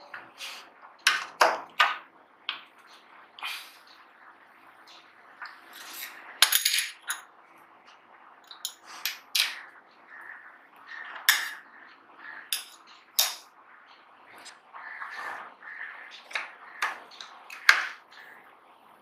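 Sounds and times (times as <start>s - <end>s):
faint hard drive hum: 0.0s - 19.0s.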